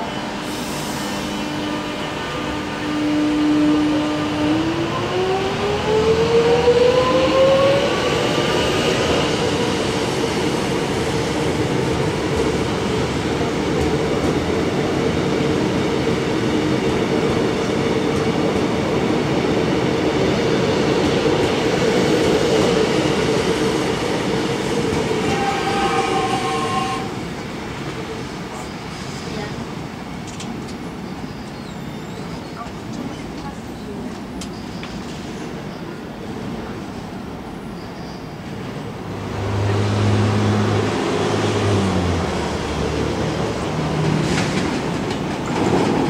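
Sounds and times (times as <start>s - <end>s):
train wheels running on rails: 6.4s - 37.5s, 38.3s - 46.0s.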